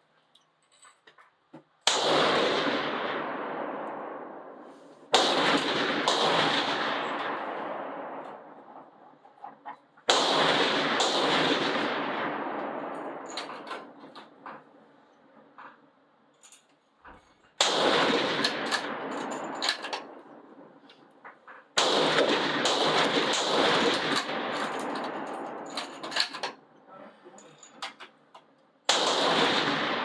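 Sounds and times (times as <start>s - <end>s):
rifle shots with echo: 1.8s - 15.8s, 17.6s - 26.8s, 28.8s - 30.0s.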